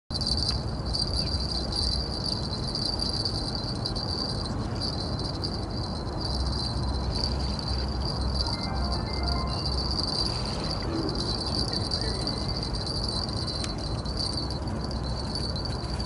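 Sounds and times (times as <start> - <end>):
insects trilling: 0.2 - 16.0
low rushing background noise: 0.7 - 16.0.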